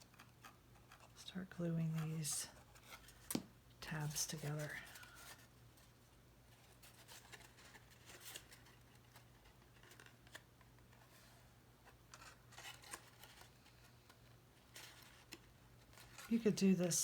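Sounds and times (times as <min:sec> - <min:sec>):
cardstock rustling and ticking: 0:00.0 - 0:17.0.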